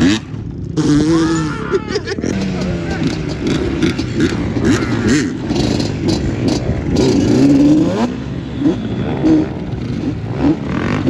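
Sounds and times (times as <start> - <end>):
off-road engines revving: 0.0 - 11.0.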